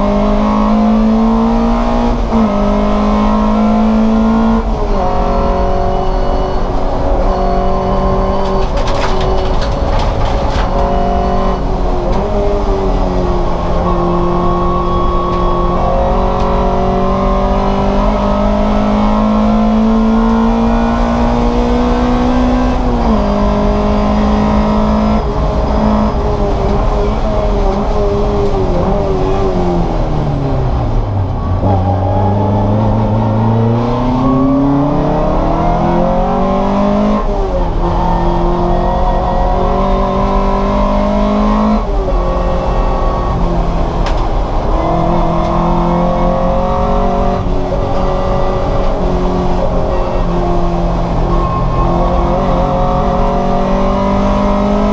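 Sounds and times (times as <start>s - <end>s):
race car engine revving through gears: 0.0s - 54.9s.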